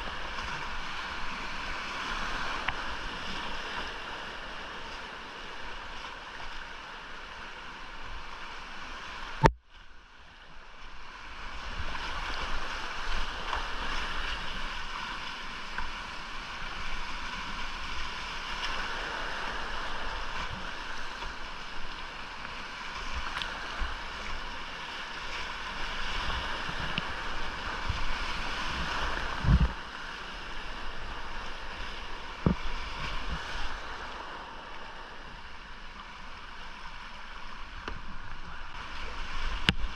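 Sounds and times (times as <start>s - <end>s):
whitewater rushing: 0.0s - 9.5s, 11.5s - 39.9s.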